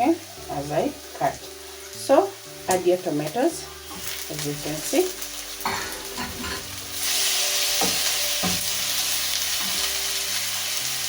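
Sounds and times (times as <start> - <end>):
onions and tomatoes sizzling: 0.0 - 11.0.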